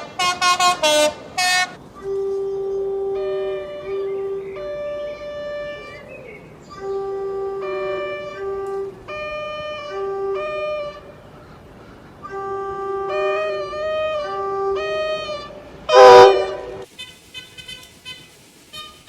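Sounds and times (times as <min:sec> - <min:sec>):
loud horn blast: 0:00.0 - 0:06.0, 0:06.7 - 0:11.2, 0:12.2 - 0:18.3
musical horn playing chords: 0:00.0 - 0:06.0, 0:06.6 - 0:11.2, 0:12.2 - 0:16.9.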